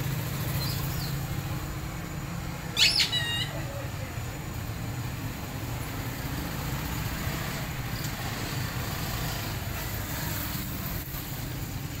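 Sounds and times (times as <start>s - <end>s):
outdoor background rumble with hiss: 0.0s - 12.0s.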